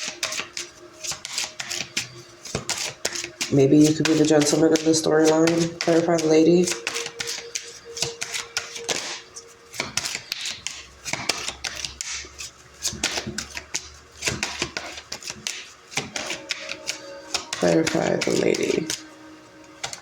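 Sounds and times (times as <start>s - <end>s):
cards being shuffled: 0.0s - 20.0s.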